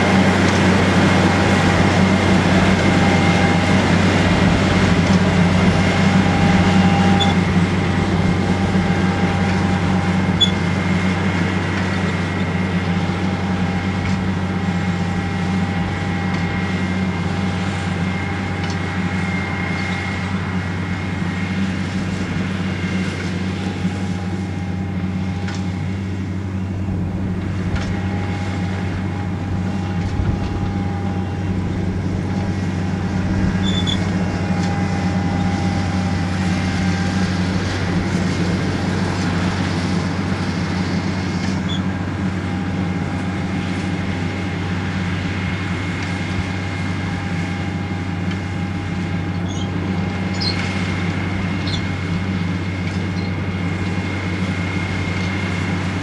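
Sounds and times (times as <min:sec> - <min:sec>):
diesel engine droning: 0:00.0 - 0:56.0
machinery whining tones: 0:00.0 - 0:56.0.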